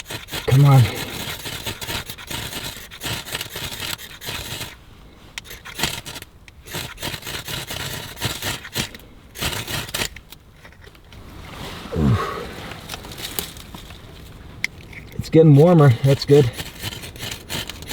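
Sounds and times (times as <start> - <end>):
ferro rod scraping: 0.0 - 17.9.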